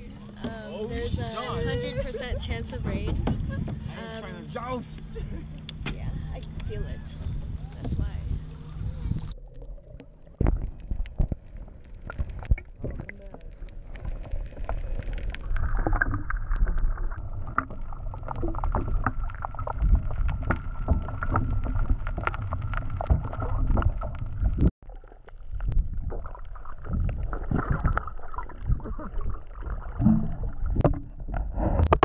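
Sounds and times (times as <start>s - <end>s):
muffled underwater rumble: 0.0s - 32.0s.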